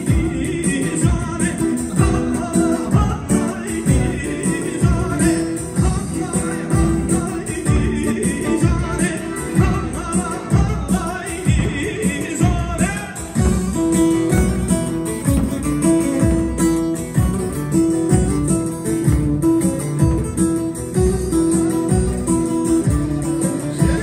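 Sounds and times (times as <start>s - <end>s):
plucked-string melody: 0.0s - 24.0s
steady drum beat: 0.0s - 24.0s.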